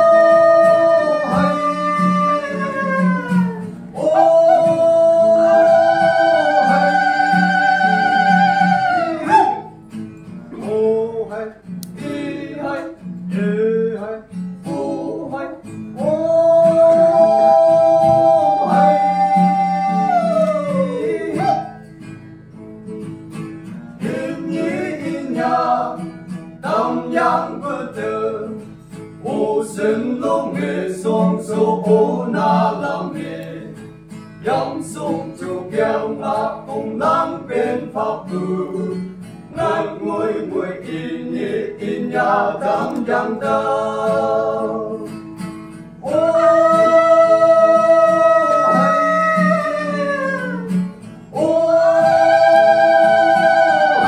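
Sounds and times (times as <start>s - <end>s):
men singing in harmony: 0.0s - 9.7s, 10.6s - 15.4s, 16.0s - 21.7s, 24.0s - 28.6s, 29.2s - 33.8s, 34.4s - 45.1s, 46.0s - 50.7s, 51.3s - 54.0s
guitar accompaniment: 0.0s - 54.0s.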